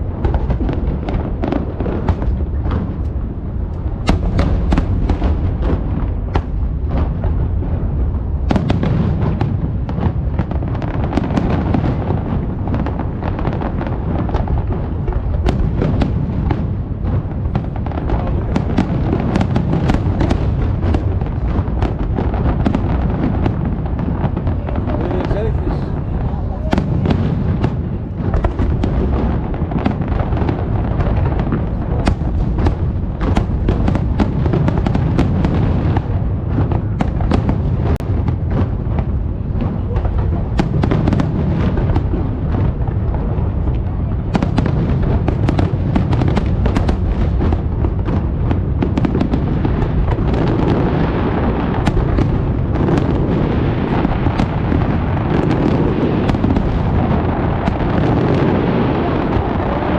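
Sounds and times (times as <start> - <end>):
continuous low rumble: 0.0 - 59.9
firework cracks: 0.0 - 59.9
firework shells booming: 0.0 - 59.9.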